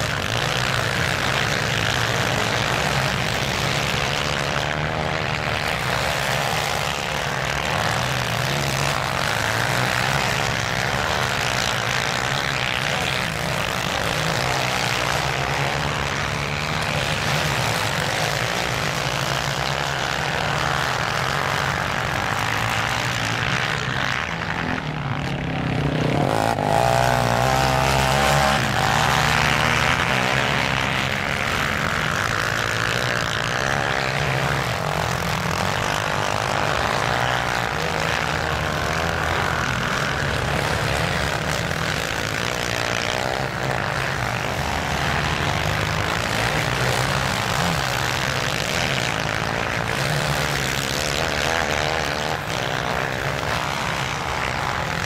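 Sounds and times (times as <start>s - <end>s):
quad bike engines revving: 0.0s - 55.0s.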